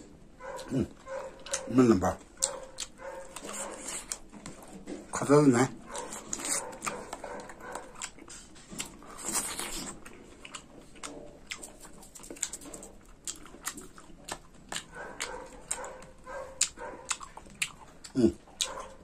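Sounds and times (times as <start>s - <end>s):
wet chewing of soft fruit: 0.0s - 19.0s.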